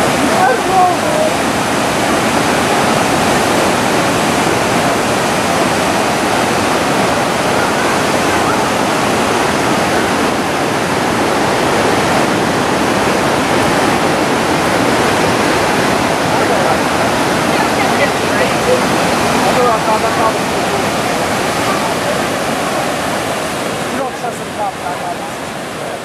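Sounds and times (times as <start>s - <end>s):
river rushing through rapids: 0.0s - 26.0s.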